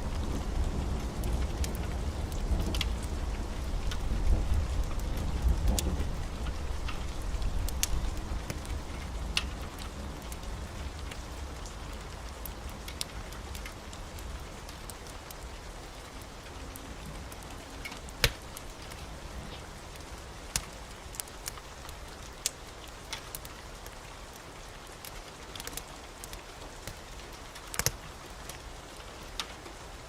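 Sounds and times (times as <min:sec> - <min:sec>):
wood fire crackling and popping: 0:00.0 - 0:29.7
steady rain hiss: 0:00.0 - 0:30.0.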